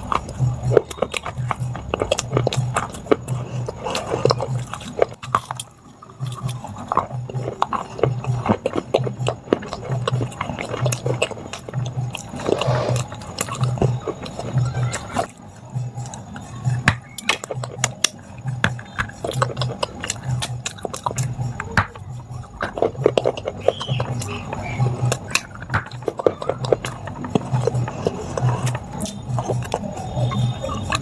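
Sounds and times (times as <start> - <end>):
crunching of baked clay chewed: 0.0 - 31.0.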